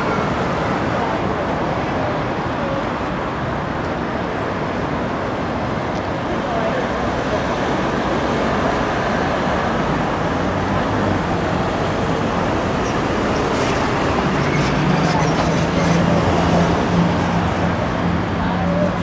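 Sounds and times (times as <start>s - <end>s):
passing cars: 0.0s - 19.0s.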